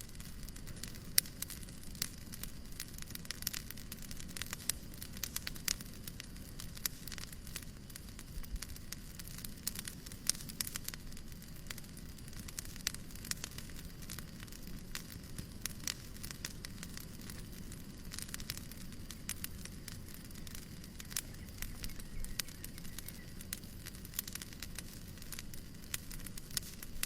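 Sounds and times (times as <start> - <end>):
fireplace crackling: 0.0 - 27.0
steady hiss: 0.0 - 27.0.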